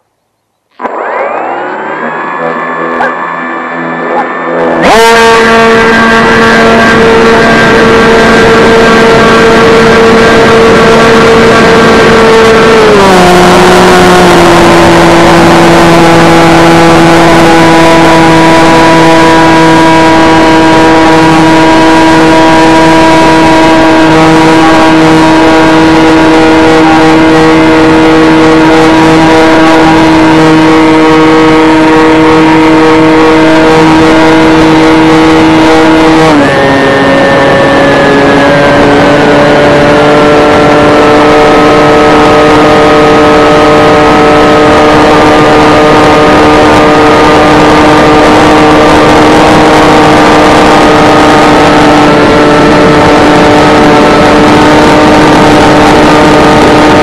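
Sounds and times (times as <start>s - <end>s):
electric motor and propeller whine: 0.8s - 57.0s.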